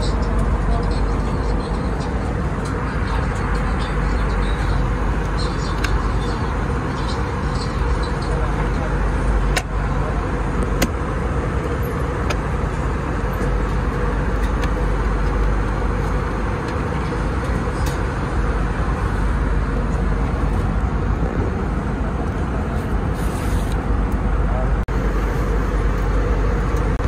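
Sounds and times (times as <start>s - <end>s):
airflow and engine rush: 0.0s - 27.0s.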